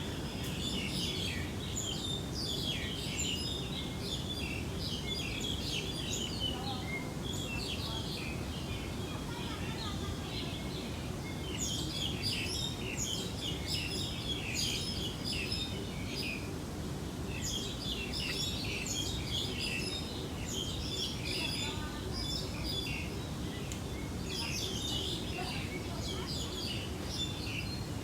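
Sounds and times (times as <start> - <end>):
small birds chirping: 0.0 - 28.0
steady low background noise: 0.0 - 28.0.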